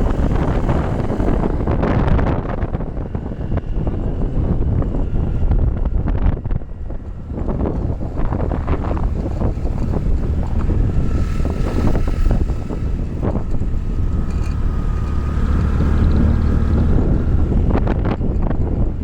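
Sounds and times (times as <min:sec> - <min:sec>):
low rumble: 0:00.0 - 0:19.0
wind buffeting microphone: 0:00.0 - 0:19.0.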